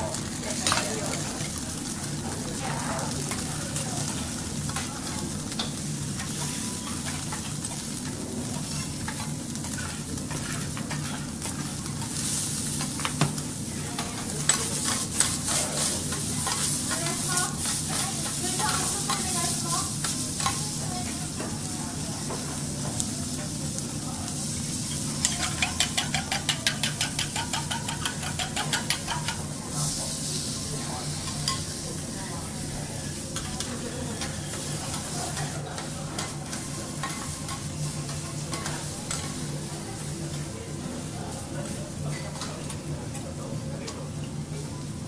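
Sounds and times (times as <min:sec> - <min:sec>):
food sizzling on a griddle: 0:00.0 - 0:45.0.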